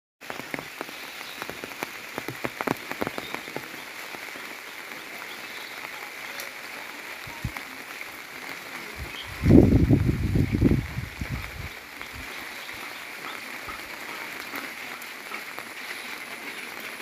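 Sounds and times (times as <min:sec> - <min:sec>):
rain pattering and dripping: 0:00.2 - 0:17.0.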